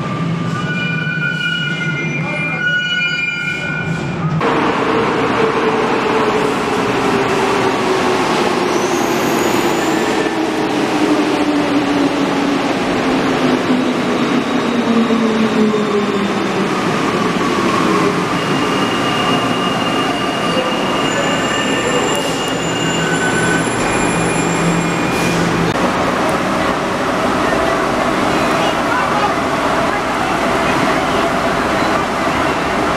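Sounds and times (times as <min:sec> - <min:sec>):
subway train braking to a stop: 0:00.0 - 0:32.9.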